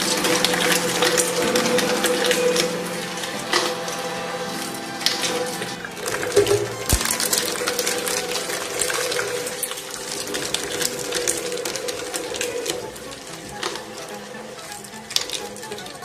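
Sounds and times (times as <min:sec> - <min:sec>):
meat grinder humming: 0:00.0 - 0:16.0.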